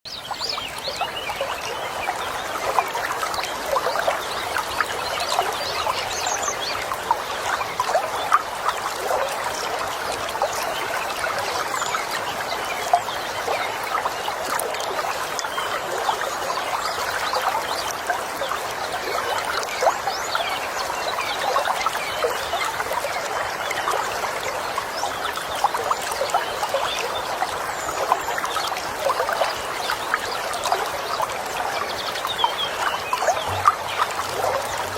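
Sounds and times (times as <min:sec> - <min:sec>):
stream babbling over stones: 0:00.1 - 0:34.9.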